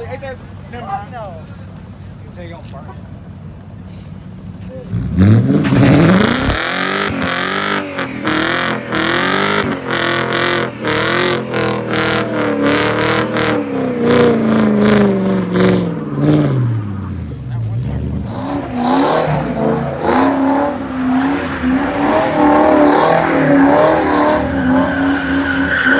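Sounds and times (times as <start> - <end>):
car engine revving hard: 4.8 - 25.9.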